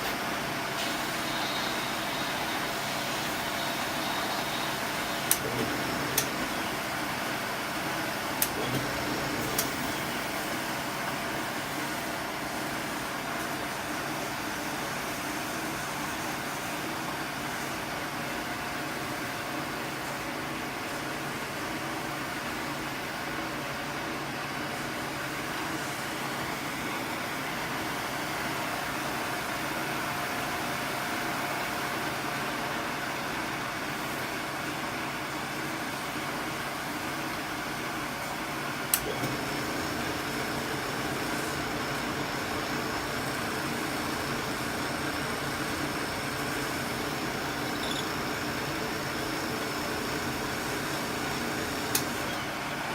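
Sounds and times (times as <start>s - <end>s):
workshop machinery humming: 0.0s - 52.9s.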